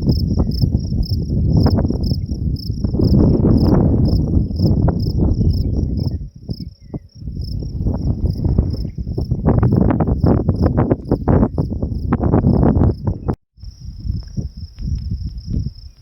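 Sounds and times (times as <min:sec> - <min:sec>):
crickets chirping: 0:00.0 - 0:16.0
wind buffeting microphone: 0:00.0 - 0:16.0.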